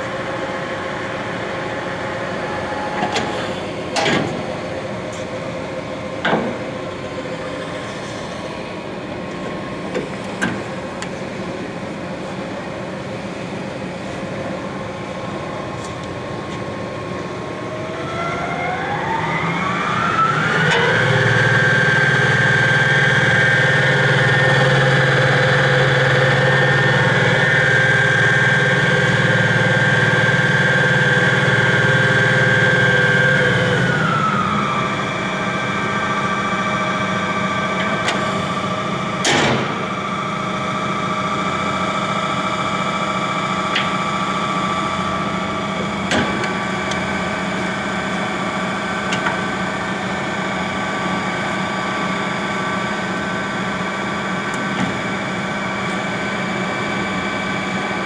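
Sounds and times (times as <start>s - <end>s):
lathe humming and whining: 0.0s - 58.0s.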